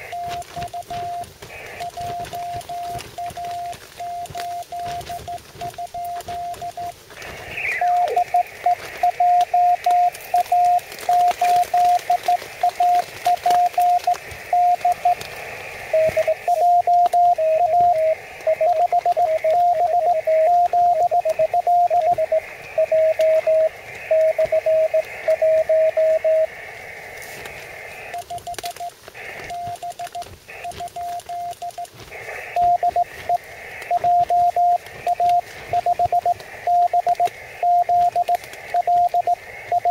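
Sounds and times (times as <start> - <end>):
morse code tones: 0.0 - 26.6, 27.2 - 39.9
radio band hiss: 0.0 - 39.9.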